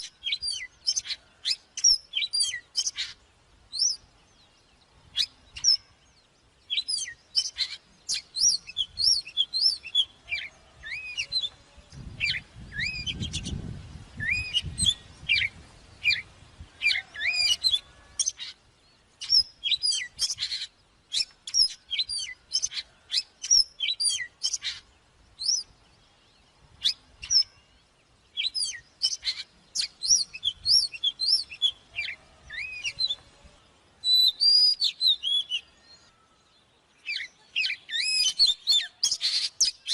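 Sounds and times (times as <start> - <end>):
bird singing whistles and chirps: 0.0 - 18.6, 19.2 - 33.3, 34.0 - 39.9.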